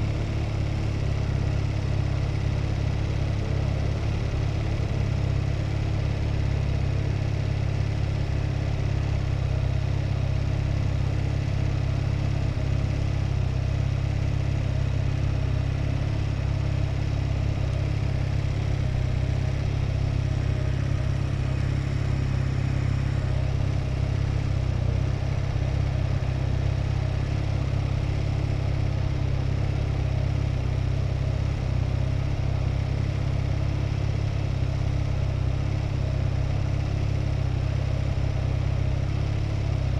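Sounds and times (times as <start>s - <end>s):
motorcycle engine and wind rumble: 0.0s - 39.9s.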